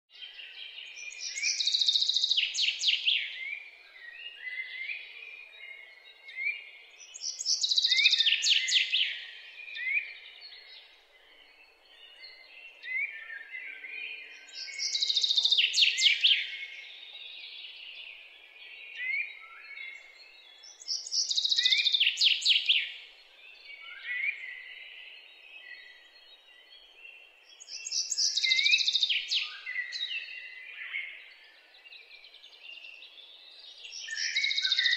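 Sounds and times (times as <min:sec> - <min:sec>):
birdsong chirps and trills: 0:00.1 - 0:34.9.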